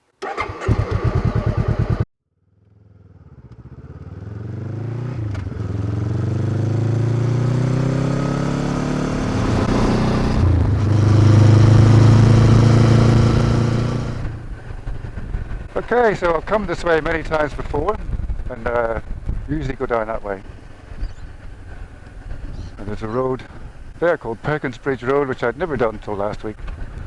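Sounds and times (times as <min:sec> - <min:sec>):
motorcycle engine: 0:00.2 - 0:24.0.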